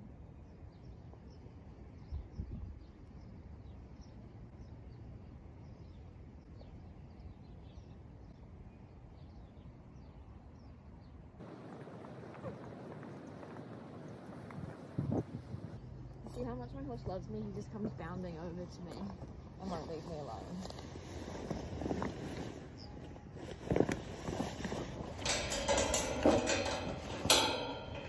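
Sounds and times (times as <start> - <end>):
small birds chirping: 0.2 - 15.2, 15.8 - 28.0.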